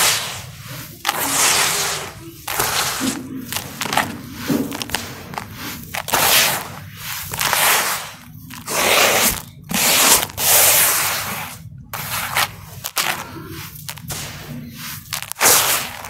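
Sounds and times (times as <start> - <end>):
hands digging through dry soil: 0.0 - 16.0.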